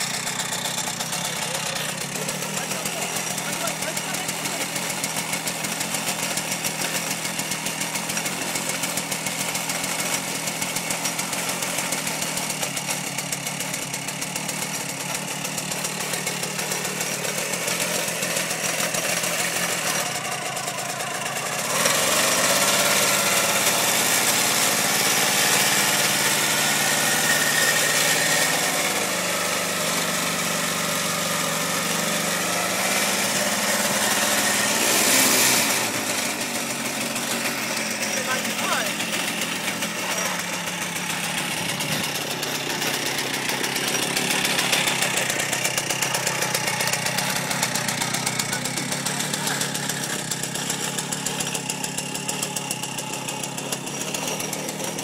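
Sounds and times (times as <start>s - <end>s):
walking tractor engine running: 0.0s - 55.0s.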